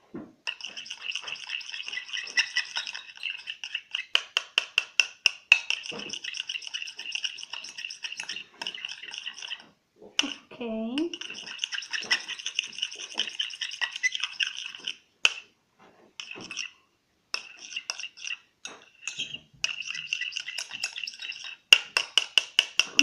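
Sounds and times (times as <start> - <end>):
spoon scraping metal bowl: 0.4 - 15.5, 16.1 - 23.0
spoon tapping against bowl: 0.5 - 9.6, 10.2 - 15.4, 17.4 - 23.0.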